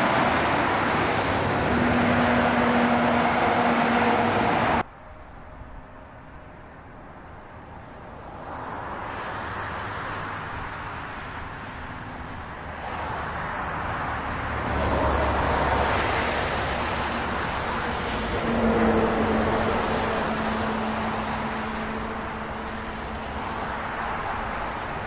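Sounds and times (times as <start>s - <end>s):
cars passing on highway: 0.0s - 25.0s.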